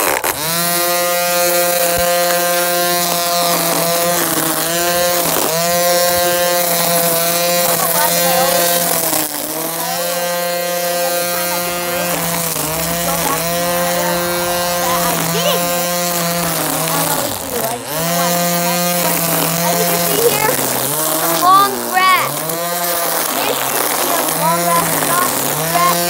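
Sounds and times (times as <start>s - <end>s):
string trimmer whining: 0.0s - 26.0s.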